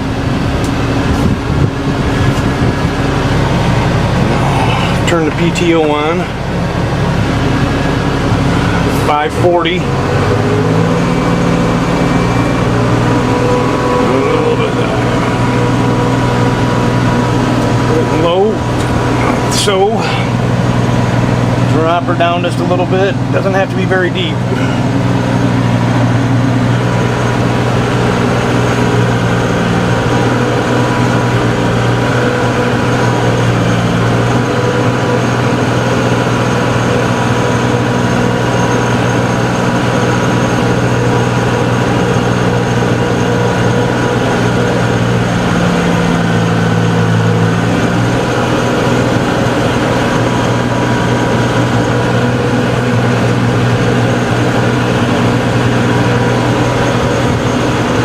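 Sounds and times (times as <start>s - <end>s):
tractor engine running under load: 0.0s - 58.0s.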